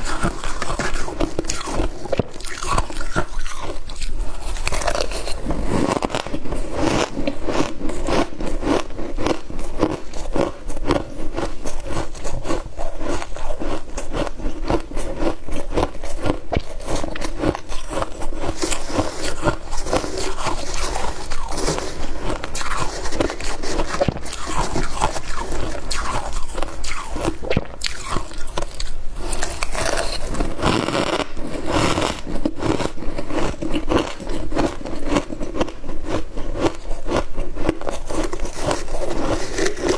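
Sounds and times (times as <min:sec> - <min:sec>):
chewing crunchy frost: 0:00.0 - 0:39.9.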